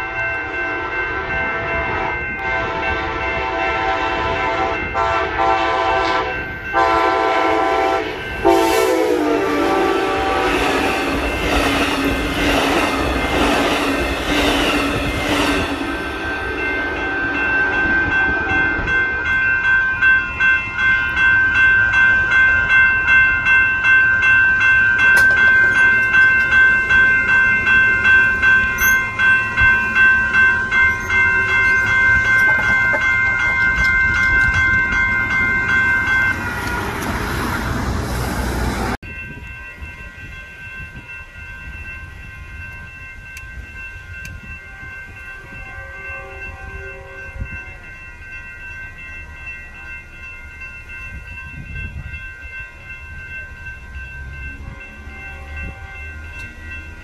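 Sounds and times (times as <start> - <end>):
crossing warning bell ringing: 0.0 - 57.0
train wheels rumbling on rails: 0.0 - 57.0.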